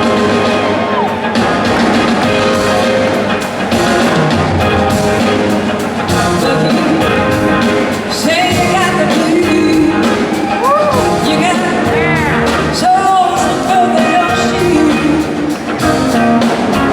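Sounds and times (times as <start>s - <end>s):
drum kit beat: 0.0s - 16.9s
live rock band playing: 0.0s - 16.9s.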